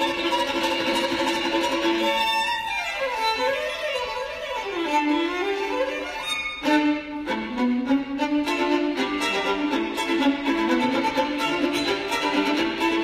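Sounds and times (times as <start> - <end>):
violin playing a melody: 0.0 - 13.0.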